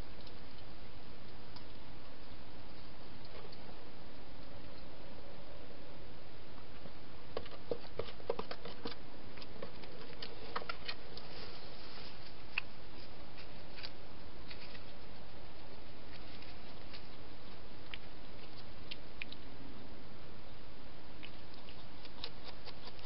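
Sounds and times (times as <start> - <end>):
microphone hiss: 0.0 - 23.0.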